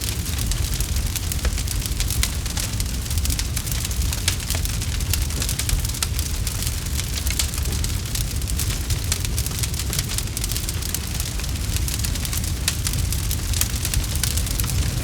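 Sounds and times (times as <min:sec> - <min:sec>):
campfire crackles and pops: 0:00.0 - 0:15.0
flames rumbling: 0:00.0 - 0:15.0.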